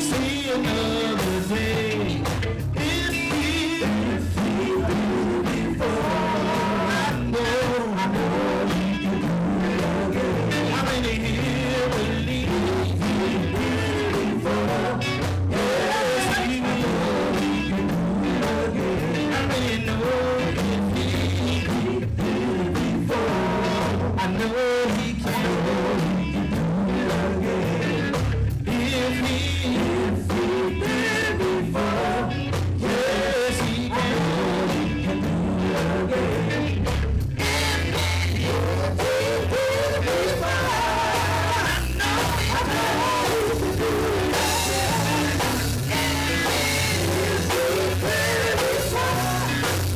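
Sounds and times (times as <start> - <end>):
drums: 0.0 - 49.9
group singing: 0.0 - 49.9
guitar: 0.0 - 49.9.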